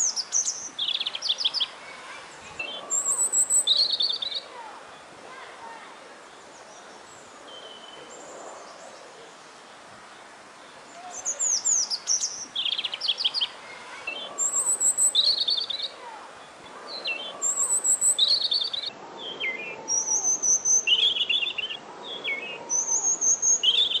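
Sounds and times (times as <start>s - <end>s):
faint birdsong: 0.0s - 24.0s
robin singing: 0.0s - 24.0s.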